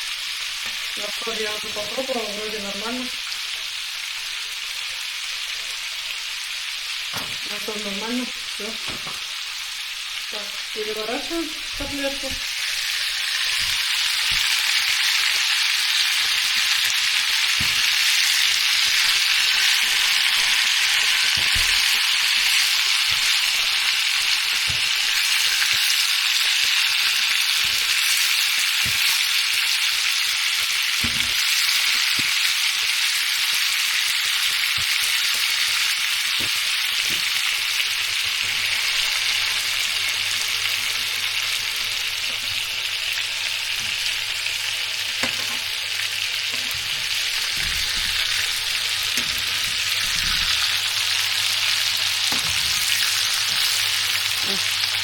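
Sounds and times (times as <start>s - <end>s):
cutlets sizzling in hot oil: 0.0s - 55.0s.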